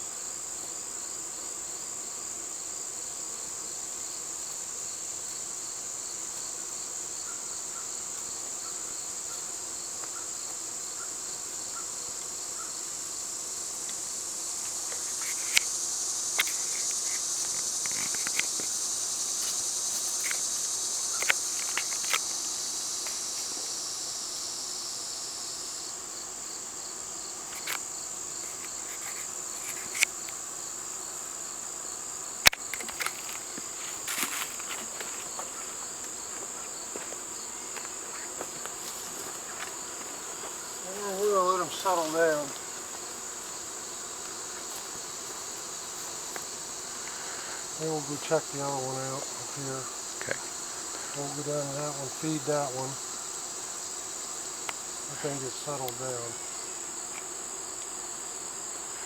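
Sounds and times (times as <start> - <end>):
insects singing: 0.0 - 59.0.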